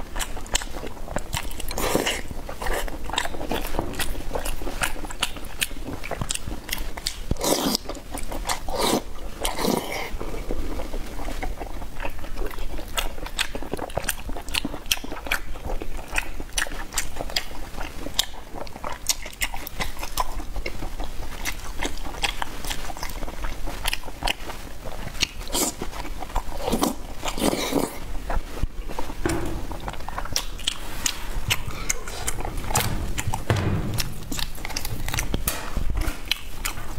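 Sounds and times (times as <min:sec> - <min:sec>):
person biting and chewing food: 0:00.0 - 0:10.2, 0:10.8 - 0:36.9.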